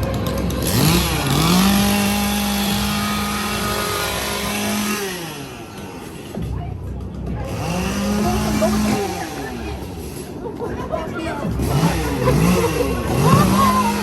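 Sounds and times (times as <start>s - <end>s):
chainsaw revving: 0.0s - 6.5s, 7.4s - 10.3s, 11.4s - 14.0s.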